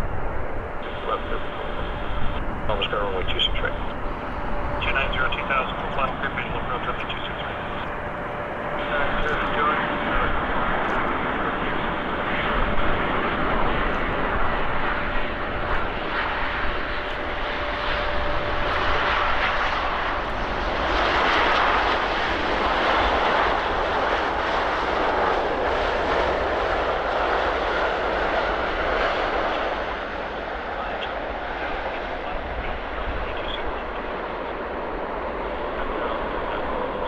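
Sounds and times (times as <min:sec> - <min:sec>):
jet engines rushing: 0:00.0 - 0:37.0
thin steady engine whine: 0:00.0 - 0:37.0.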